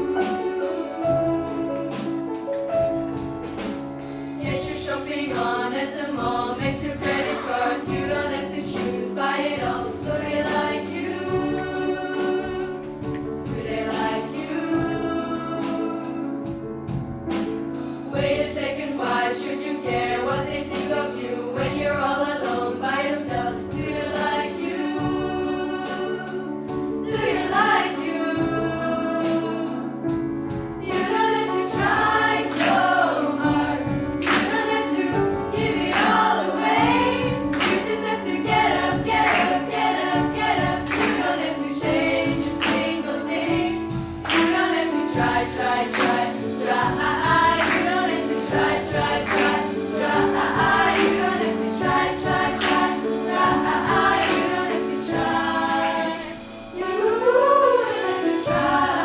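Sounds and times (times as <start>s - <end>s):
girls choir singing: 0.0s - 2.3s, 4.4s - 16.3s, 18.1s - 29.9s, 30.8s - 59.0s
piano: 0.0s - 59.0s.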